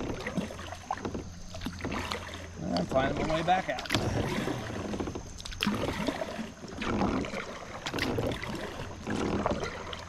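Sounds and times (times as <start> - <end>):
paddle splashing into water: 0.0 - 10.0.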